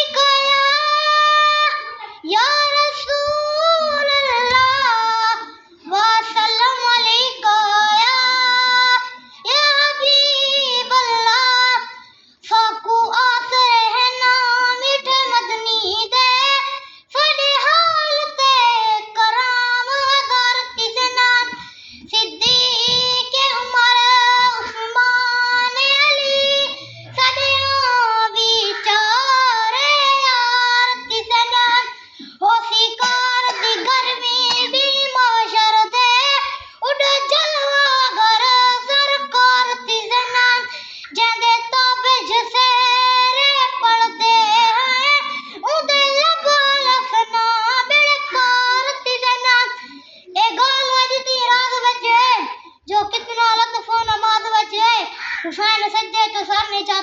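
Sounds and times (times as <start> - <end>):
child reciting melodically: 0.0 - 57.0.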